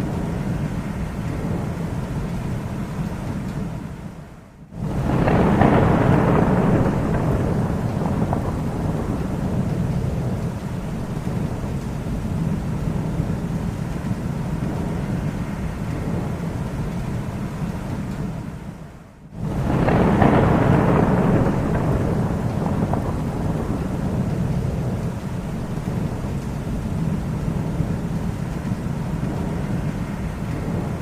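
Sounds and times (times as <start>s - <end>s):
rolling thunder rumble: 0.0s - 31.0s.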